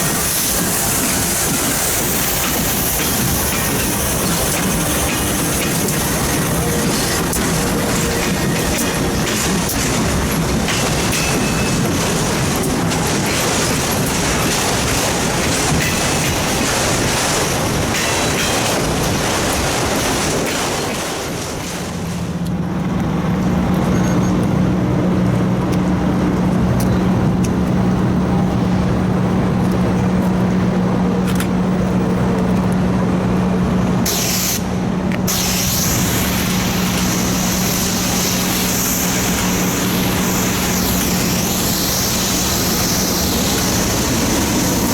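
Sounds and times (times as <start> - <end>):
freight train rolling past: 0.0 - 44.9
wheels rattling on rail: 0.0 - 44.9.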